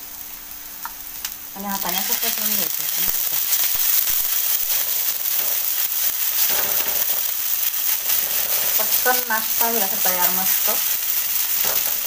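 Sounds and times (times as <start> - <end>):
batter sizzling in oil: 0.0 - 12.0.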